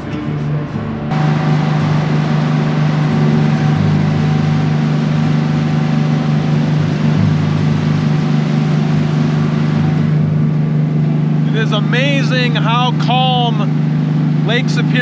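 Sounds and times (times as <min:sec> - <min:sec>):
ferry engines droning: 0:00.0 - 0:15.0.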